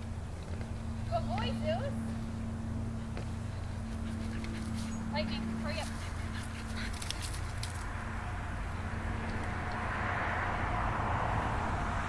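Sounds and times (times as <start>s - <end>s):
vehicle road noise: 0.0s - 12.0s.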